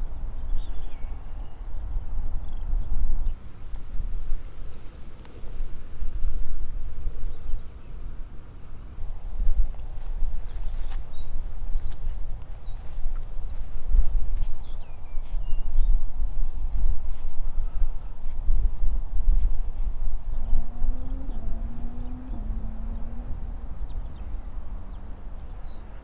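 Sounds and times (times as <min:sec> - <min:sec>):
wind buffeting microphone: 0:00.0 - 0:26.0
small birds chirping and trilling: 0:04.5 - 0:26.0.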